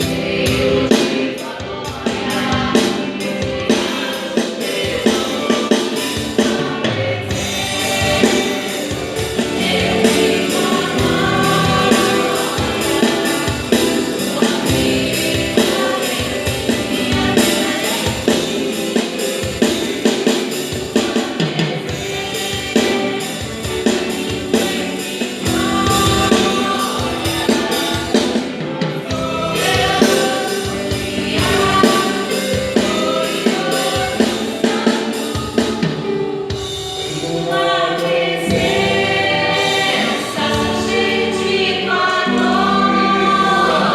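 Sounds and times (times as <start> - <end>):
band with drum kit: 0.0 - 43.9
choir singing in harmony: 0.0 - 43.9.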